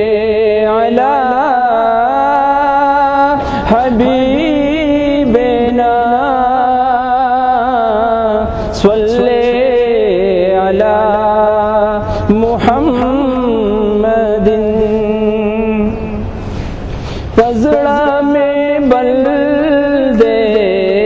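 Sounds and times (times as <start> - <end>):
man chanting: 0.0 - 16.4, 17.2 - 21.0.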